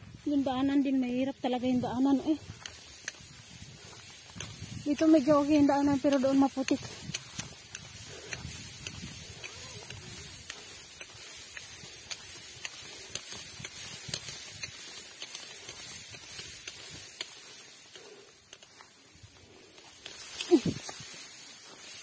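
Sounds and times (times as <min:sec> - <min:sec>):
footsteps on muddy path: 0:00.0 - 0:22.0.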